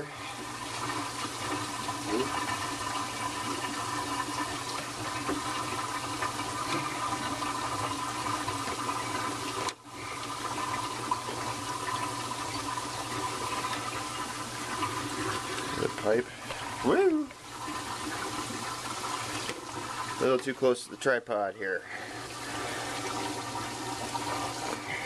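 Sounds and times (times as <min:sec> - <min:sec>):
water running through pipes: 0:00.0 - 0:25.0.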